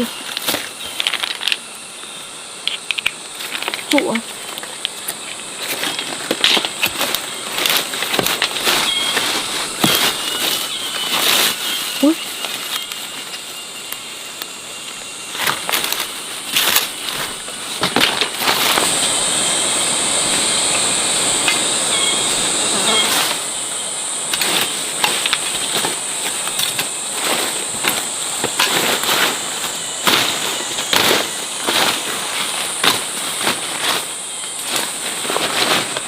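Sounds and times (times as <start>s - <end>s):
crackling and rustling clicks: 0.0s - 19.2s, 24.3s - 36.0s
high-pitched insect-like buzz: 0.0s - 36.0s.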